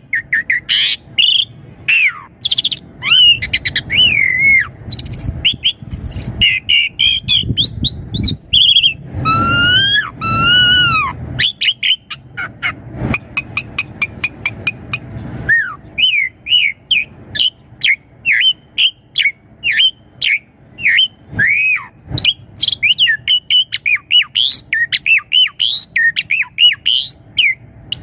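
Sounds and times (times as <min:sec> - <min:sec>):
starling singing: 0:00.0 - 0:28.0.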